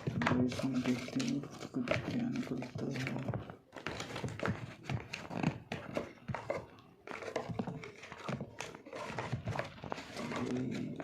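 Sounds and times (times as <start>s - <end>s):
cardboard packaging rustling: 0.0s - 11.0s
clicks and scrapes: 0.0s - 11.0s.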